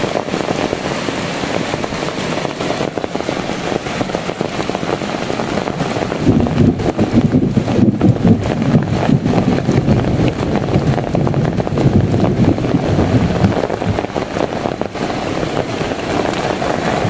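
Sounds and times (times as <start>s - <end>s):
heavy rain patter: 0.0s - 17.0s
wind buffeting microphone: 0.0s - 17.0s.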